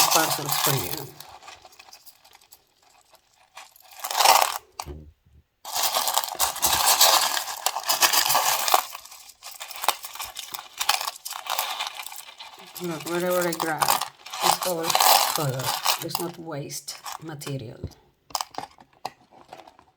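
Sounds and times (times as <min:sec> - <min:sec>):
stones clinking and clattering: 0:00.0 - 0:04.9, 0:05.6 - 0:19.9.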